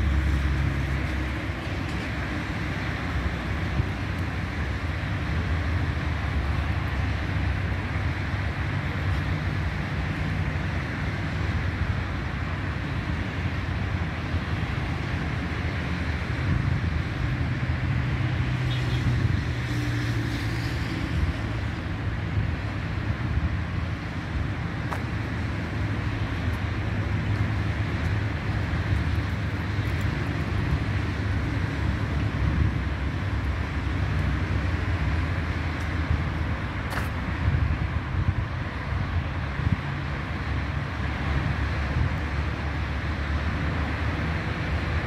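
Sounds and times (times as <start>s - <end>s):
distant city traffic rumble: 0.0s - 45.0s.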